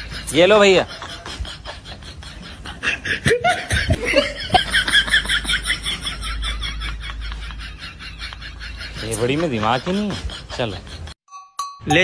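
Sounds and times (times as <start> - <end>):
person laughing: 0.2 - 11.2.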